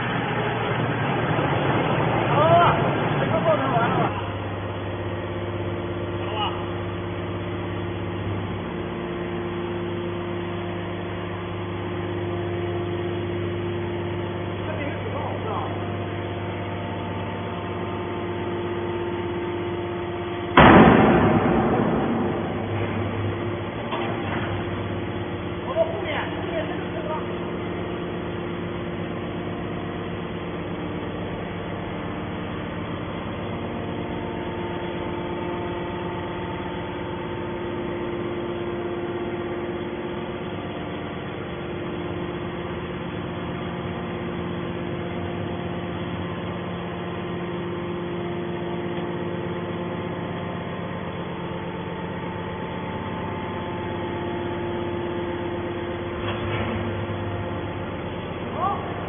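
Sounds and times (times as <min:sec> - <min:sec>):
hydraulic power unit humming: 0:00.0 - 0:59.0.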